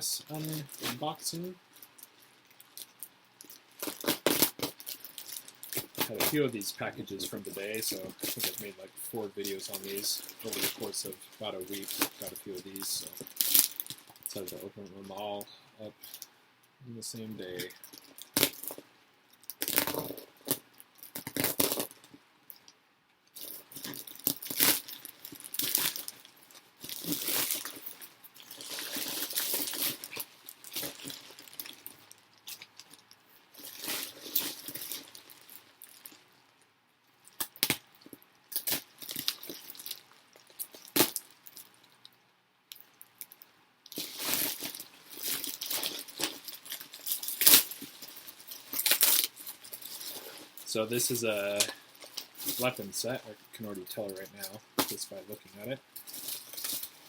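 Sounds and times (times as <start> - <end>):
plastic packaging crinkling: 0.0 - 16.3, 19.4 - 22.2, 23.4 - 36.6, 37.2 - 42.1, 42.7 - 57.0.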